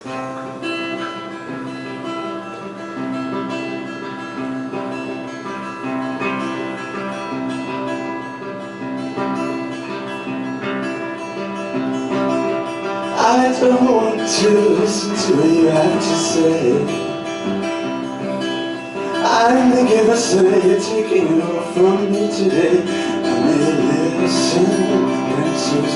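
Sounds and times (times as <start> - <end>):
acoustic guitar chords: 0.0 - 25.9.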